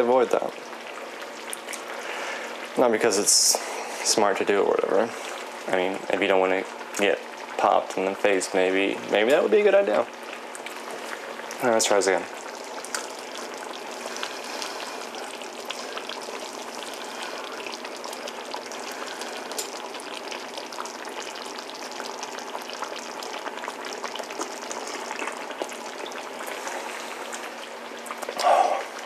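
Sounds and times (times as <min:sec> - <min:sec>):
chili bubbling and popping: 0:00.0 - 0:29.0.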